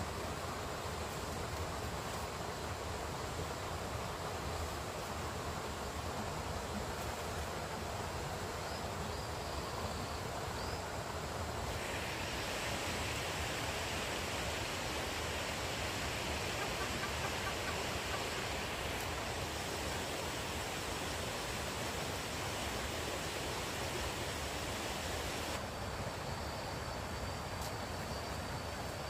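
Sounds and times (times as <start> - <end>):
forest rushing hiss: 0.0 - 29.0.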